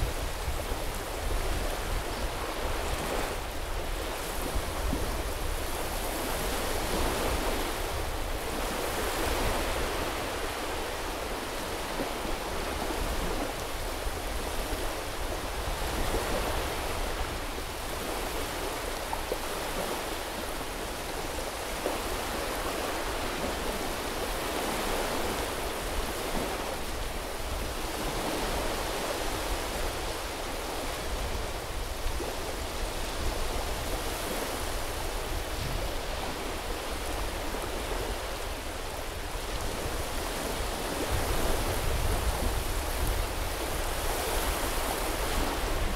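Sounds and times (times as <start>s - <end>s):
small waves washing onto beach: 0.0s - 45.9s.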